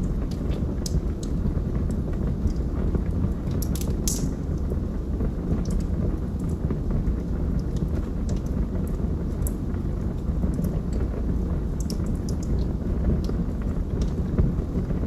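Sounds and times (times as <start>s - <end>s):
log fire crackling: 0.0s - 15.0s.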